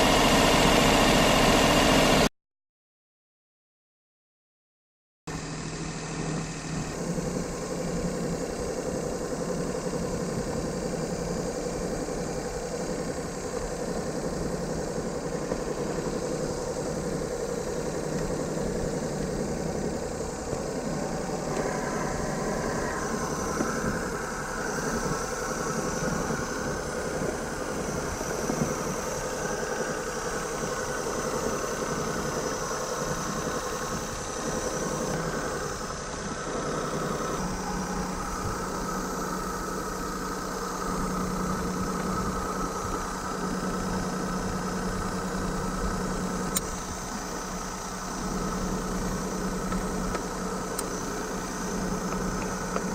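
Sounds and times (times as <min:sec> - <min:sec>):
car engine idling unevenly: 0:05.4 - 0:52.9.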